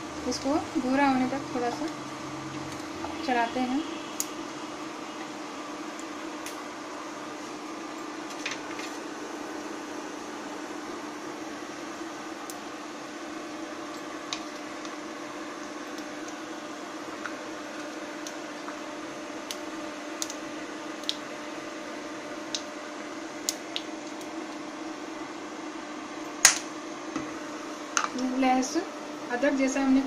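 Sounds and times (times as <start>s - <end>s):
cooktop cooling fan hum: 0.0s - 30.0s
spices frying in hot oil: 0.0s - 30.0s.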